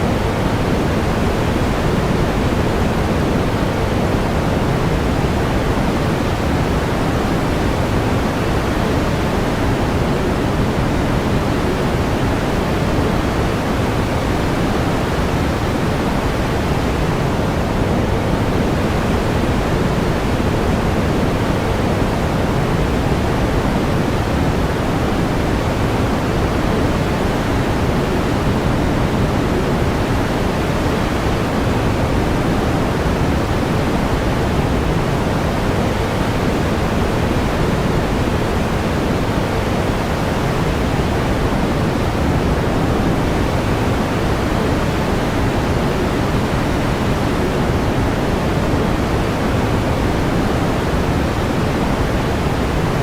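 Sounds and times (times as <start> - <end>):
pink noise hiss: 0.0 - 53.0.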